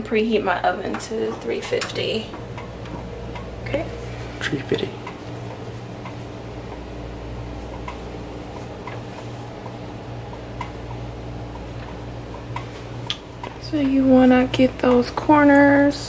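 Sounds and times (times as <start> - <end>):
quiet electrical hum: 0.0 - 16.0.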